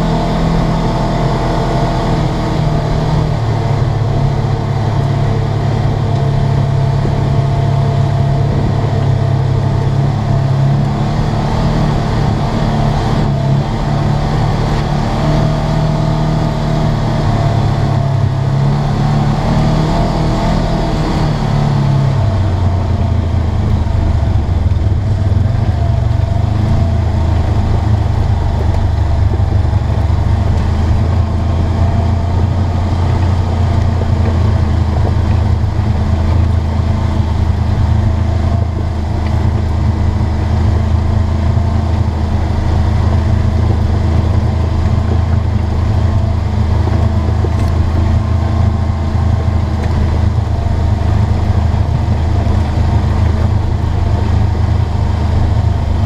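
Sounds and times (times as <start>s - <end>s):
engine running under throttle: 0.0s - 56.0s.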